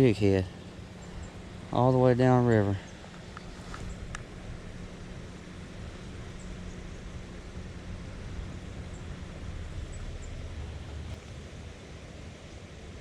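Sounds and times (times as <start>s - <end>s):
low rumble: 0.0s - 13.0s
river flowing: 0.0s - 13.0s.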